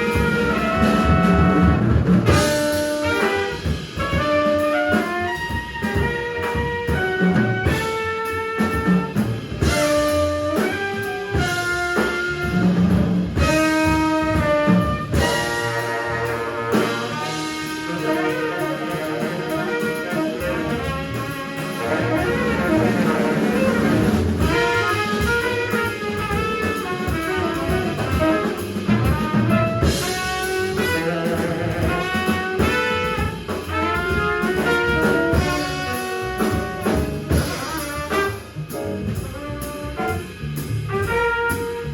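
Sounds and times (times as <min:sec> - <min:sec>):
drum kit hits: 0:00.0 - 0:41.9
saxophone playing: 0:00.0 - 0:41.9
trumpet playing: 0:00.0 - 0:41.9.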